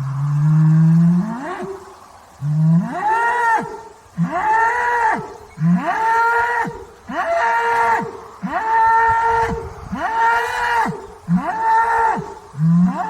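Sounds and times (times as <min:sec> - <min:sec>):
bull bellowing: 0:00.0 - 0:13.0.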